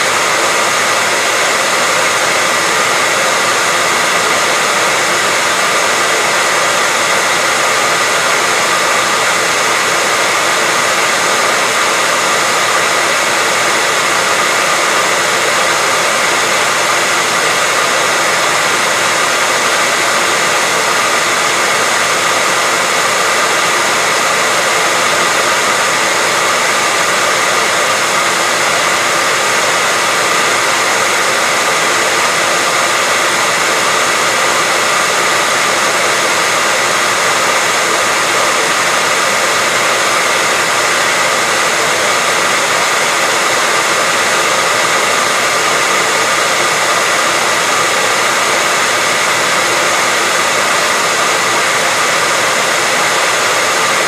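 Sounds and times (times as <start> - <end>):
hairdryer blowing air: 0.0 - 54.0.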